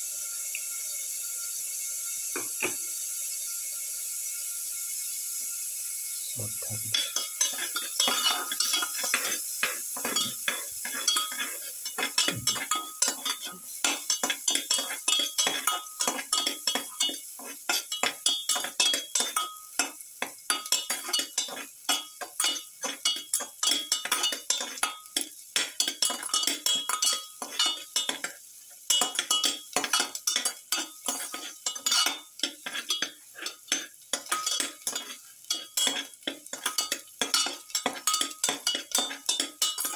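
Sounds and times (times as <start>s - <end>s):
faint oil sizzle: 0.0s - 39.9s
metal spatula scraping steel pan: 6.9s - 39.9s.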